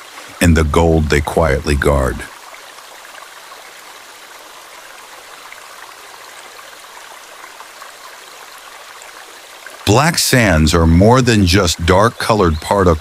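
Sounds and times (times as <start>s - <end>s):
shallow running water: 0.0s - 13.0s.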